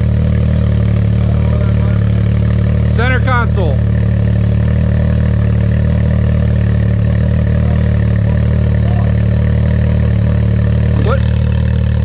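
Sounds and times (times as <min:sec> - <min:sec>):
engine idling through exhaust: 0:00.0 - 0:12.0.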